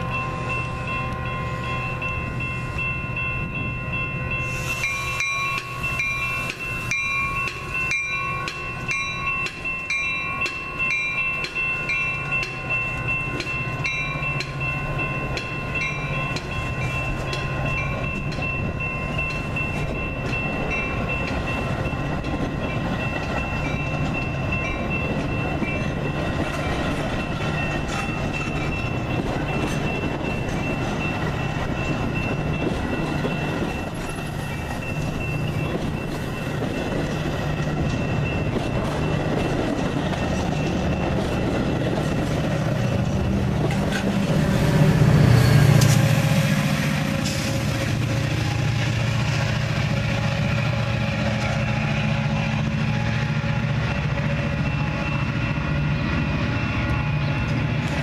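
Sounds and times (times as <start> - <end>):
crossing bell ringing: 0.0 - 58.0
train cars rolling past: 0.0 - 58.0.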